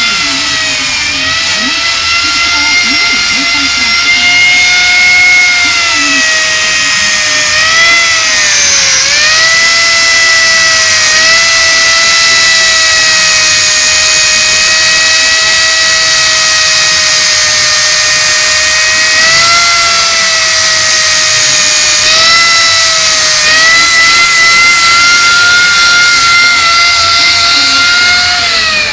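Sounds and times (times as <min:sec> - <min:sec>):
power grinder whining: 0:00.0 - 0:28.9.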